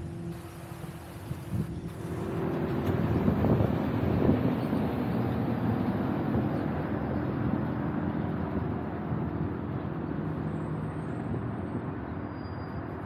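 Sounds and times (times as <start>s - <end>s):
vehicle and road noise: 0.0s - 13.0s.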